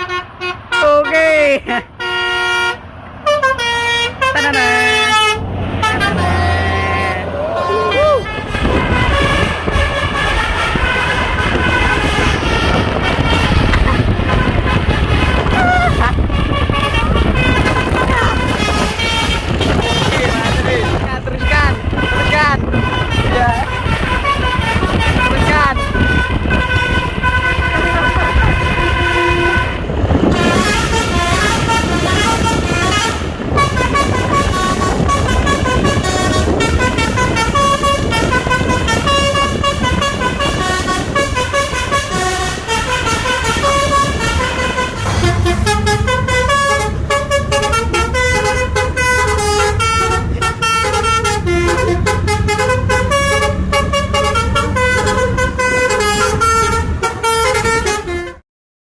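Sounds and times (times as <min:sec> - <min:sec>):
bus engine running: 0:00.0 - 0:58.4
multi-tone bus horn tune: 0:00.0 - 0:58.4.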